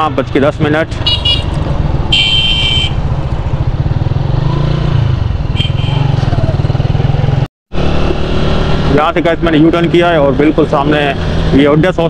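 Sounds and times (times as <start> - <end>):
motorcycle engine running: 0.9 - 11.8.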